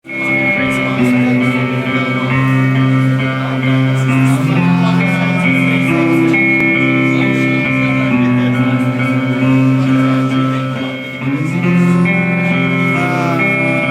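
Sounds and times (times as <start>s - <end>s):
guitars ringing held notes: 0.0s - 13.9s.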